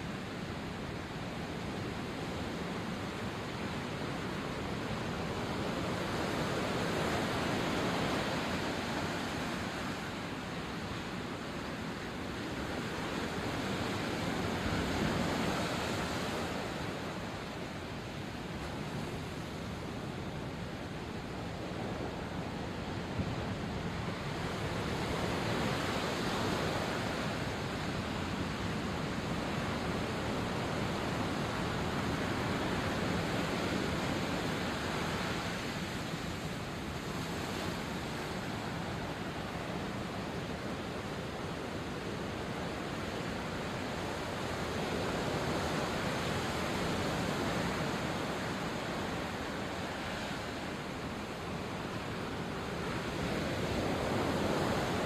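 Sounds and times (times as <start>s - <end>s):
sea surf washing ashore: 0.0s - 55.0s.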